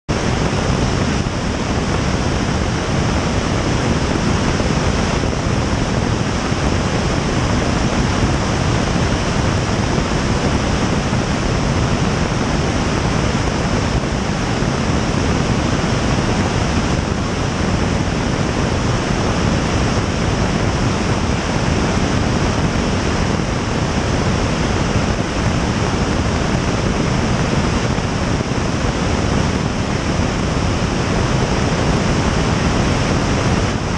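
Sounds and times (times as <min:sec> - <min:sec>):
wind rushing over camera: 0:00.1 - 0:33.9.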